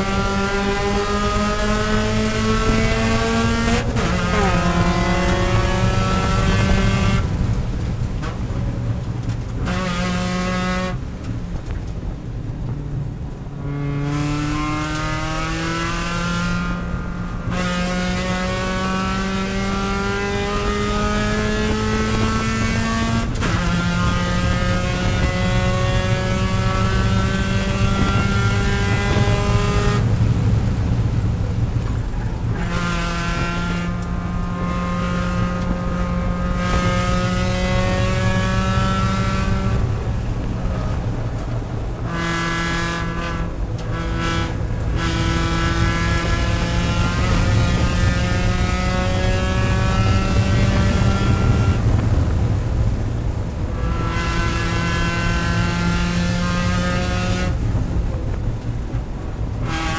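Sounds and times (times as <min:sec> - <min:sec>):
race car engine accelerating: 0:00.0 - 0:11.9, 0:12.6 - 0:59.9.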